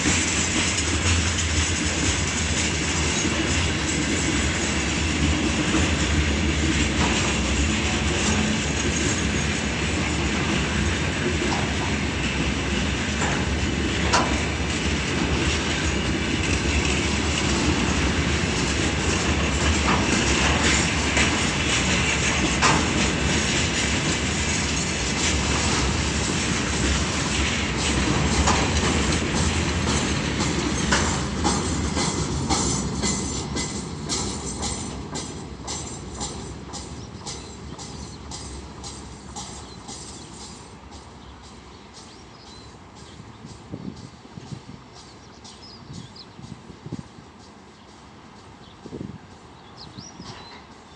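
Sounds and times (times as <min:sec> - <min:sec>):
train wheels clattering over rail joints: 0:00.0 - 0:50.9.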